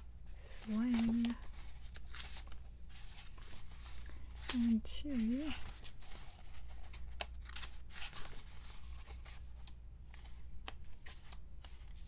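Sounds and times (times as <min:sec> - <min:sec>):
low background hum: 0:00.0 - 0:12.0
paper pages rustling: 0:00.0 - 0:12.0.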